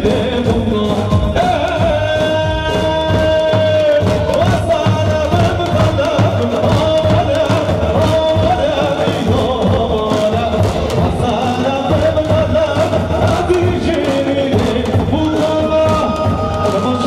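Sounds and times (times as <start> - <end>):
bass drum beating steadily: 0.0 - 17.0.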